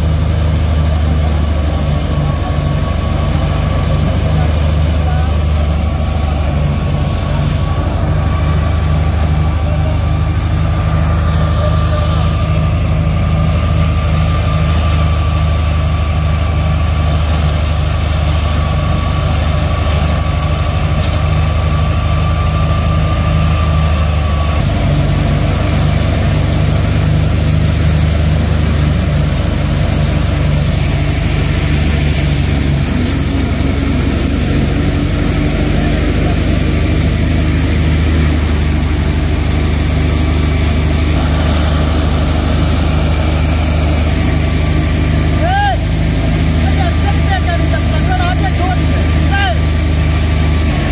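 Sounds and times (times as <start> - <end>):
low engine drone: 0.0 - 50.9
thin high whine: 0.0 - 50.9
threshing drum whirring: 0.0 - 50.9.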